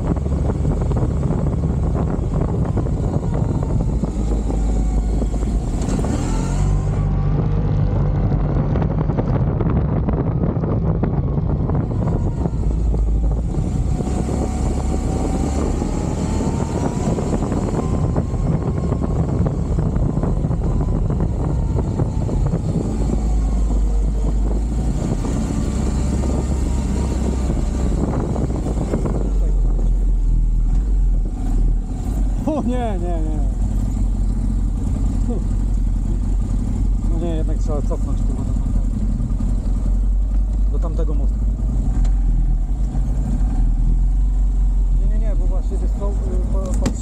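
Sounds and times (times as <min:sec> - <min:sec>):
atv engine running: 0:00.0 - 0:47.0.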